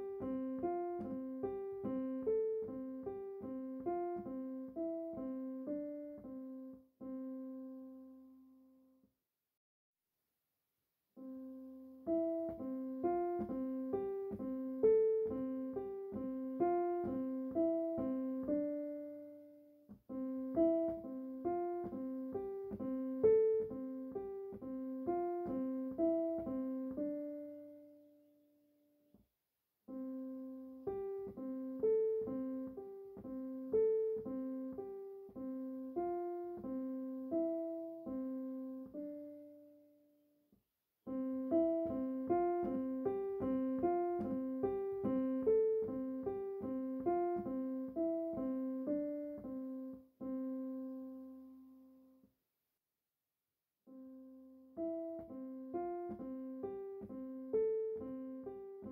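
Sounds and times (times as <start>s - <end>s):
piano music: 0.0s - 8.5s, 11.2s - 28.4s, 29.9s - 40.1s, 41.1s - 51.9s, 53.9s - 58.9s.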